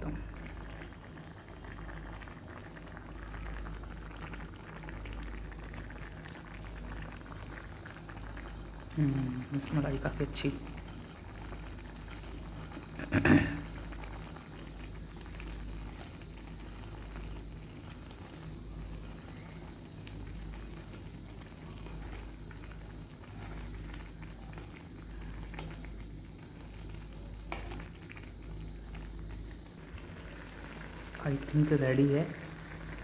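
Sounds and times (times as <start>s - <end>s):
food simmering and sizzling in pot: 0.0s - 33.0s.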